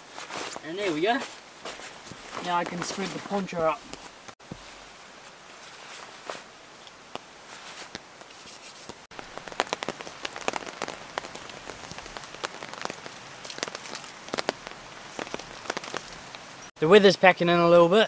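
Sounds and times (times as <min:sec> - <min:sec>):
rain falling: 0:00.0 - 0:16.7.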